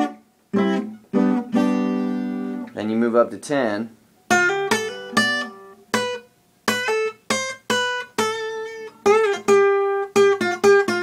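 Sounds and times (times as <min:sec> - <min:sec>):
acoustic guitar single-note line: 0:00.0 - 0:11.0.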